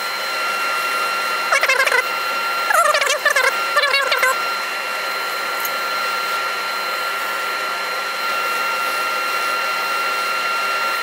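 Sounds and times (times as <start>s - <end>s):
sanding disc hissing and whining: 0.0s - 11.0s.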